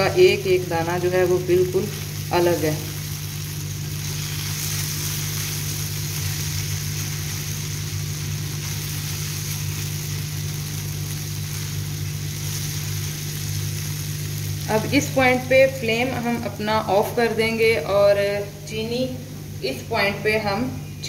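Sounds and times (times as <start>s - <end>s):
vermicelli sizzling in pan: 0.0s - 20.9s
steady low hum: 0.0s - 21.0s.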